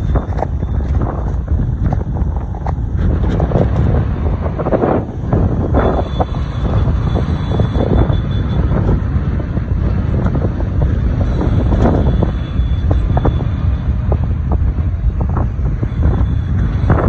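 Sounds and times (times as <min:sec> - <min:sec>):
road and traffic rumble: 0:00.0 - 0:17.0
wind buffeting microphone: 0:00.0 - 0:17.0.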